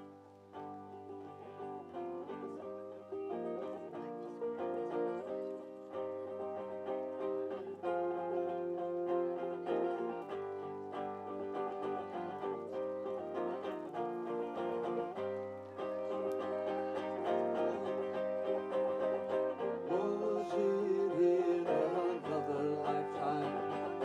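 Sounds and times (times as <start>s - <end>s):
guitar plucked notes and chords: 0.0s - 24.0s.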